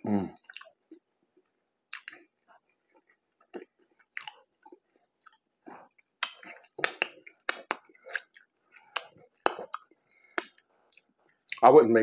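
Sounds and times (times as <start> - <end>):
person chewing with wet smacks: 0.4 - 11.6.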